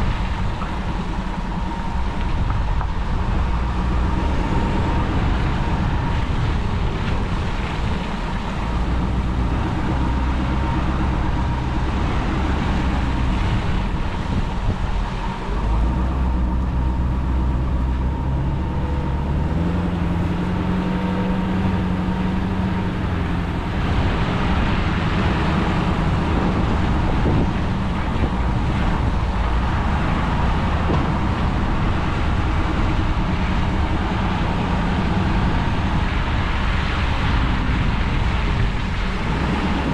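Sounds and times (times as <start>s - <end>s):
road noise: 0.0s - 39.9s
truck engine running: 0.0s - 39.9s.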